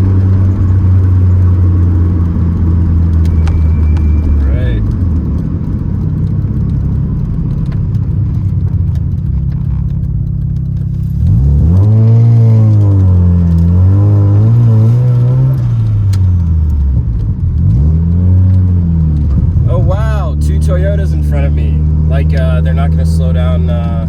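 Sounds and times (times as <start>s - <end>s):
rotary car engine revving: 0.0s - 24.0s.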